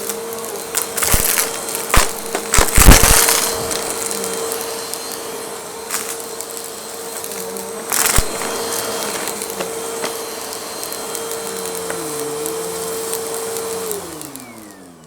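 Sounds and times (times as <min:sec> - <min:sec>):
small objects rattling in vacuum: 0:00.0 - 0:15.0
vacuum cleaner humming: 0:00.0 - 0:15.0.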